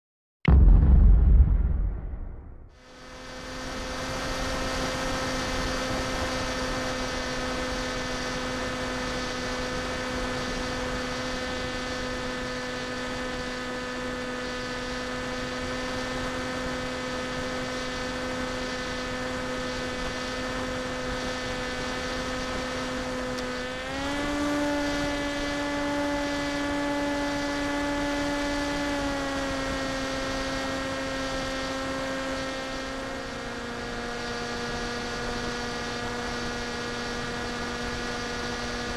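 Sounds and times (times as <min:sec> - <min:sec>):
electric motor and propeller hum: 0:03.2 - 0:38.9.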